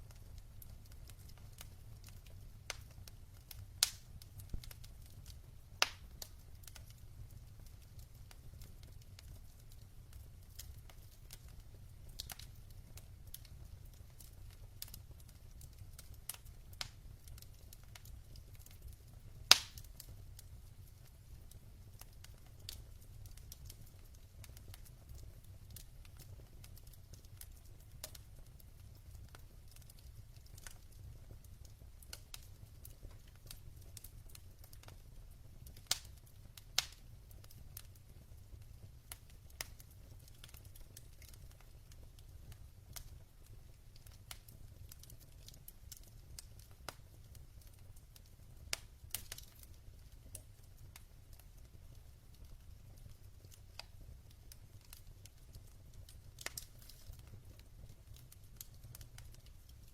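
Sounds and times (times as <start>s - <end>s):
fire crackling: 0.0s - 59.9s
low fire rumble: 0.0s - 59.9s.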